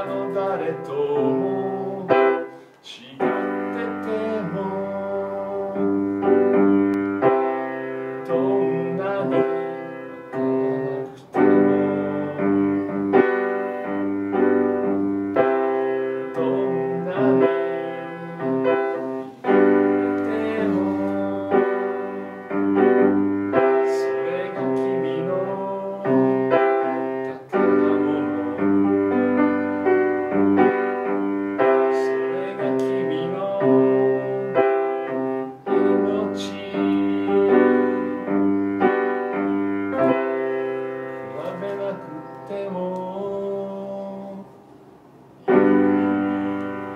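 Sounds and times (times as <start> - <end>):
upright piano chords and melody: 0.0 - 46.9.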